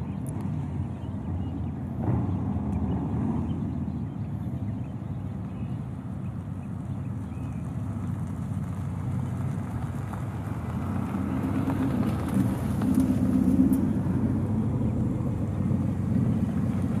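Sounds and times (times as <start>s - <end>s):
vehicle engines rolling past: 0.0s - 17.0s.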